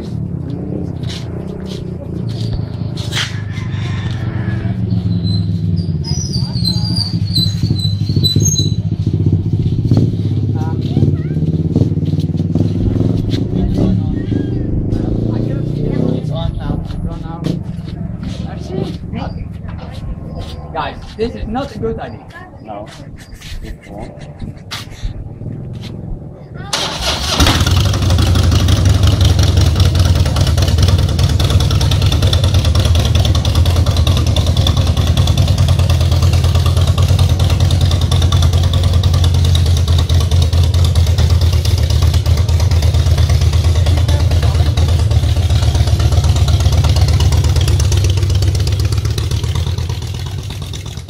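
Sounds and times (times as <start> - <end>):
motorcycle engine rumbling: 0.0 - 51.0.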